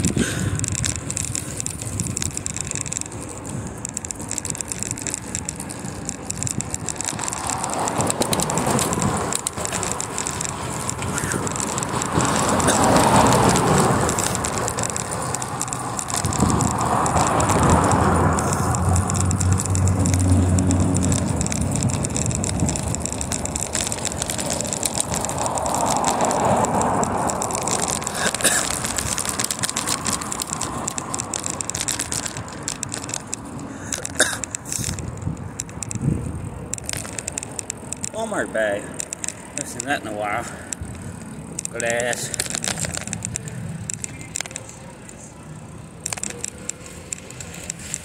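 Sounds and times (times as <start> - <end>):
bicycle rolling and rattling: 0.0 - 48.0.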